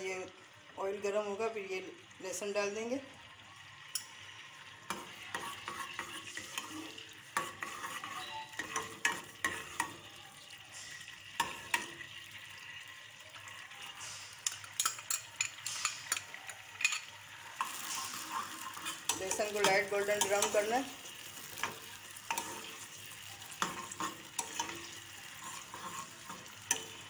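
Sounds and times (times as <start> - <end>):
oil sizzling faintly: 0.0 - 27.0.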